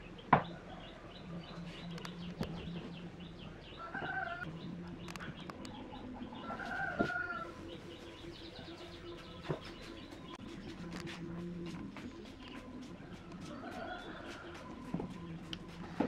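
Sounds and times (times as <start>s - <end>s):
chickens calling: 0.0s - 16.0s.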